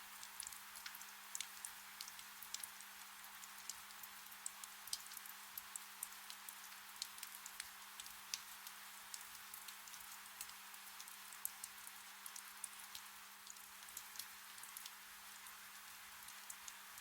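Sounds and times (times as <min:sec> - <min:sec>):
gentle rain hissing: 0:00.0 - 0:17.0
raindrops ticking: 0:00.2 - 0:17.0.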